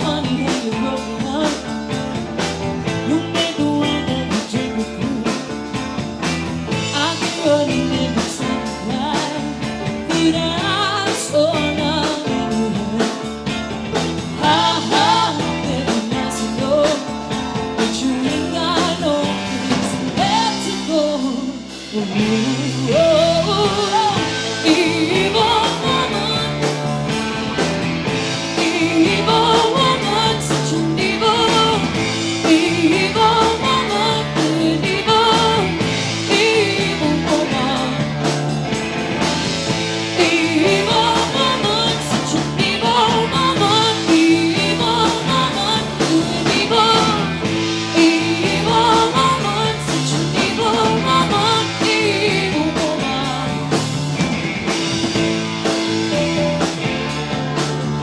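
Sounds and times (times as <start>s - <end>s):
person singing: 0.0s - 2.0s, 2.9s - 5.6s, 6.8s - 13.5s, 14.4s - 26.8s, 28.4s - 38.3s, 40.0s - 53.9s
live rock band playing: 0.0s - 58.0s.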